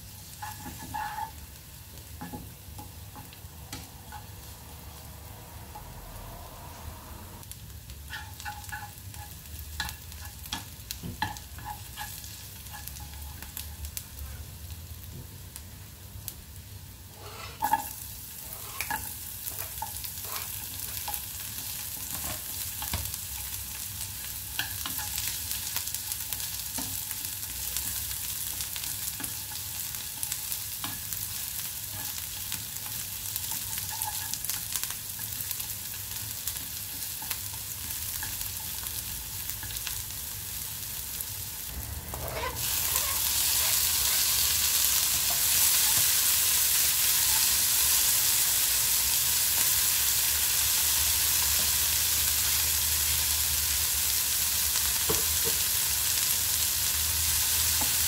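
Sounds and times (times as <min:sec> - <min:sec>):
onion sizzling in oil: 0:00.0 - 0:58.0.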